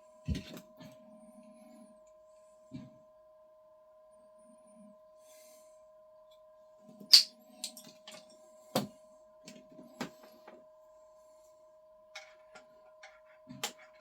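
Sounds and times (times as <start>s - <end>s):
faint two-tone hum: 0.0s - 14.0s.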